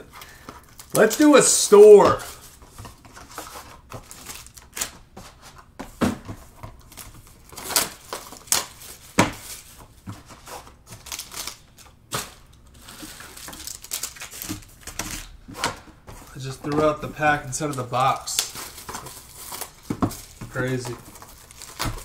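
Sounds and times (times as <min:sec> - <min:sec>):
foil and card crinkling: 0:00.0 - 0:05.0, 0:06.8 - 0:15.4, 0:16.2 - 0:22.0.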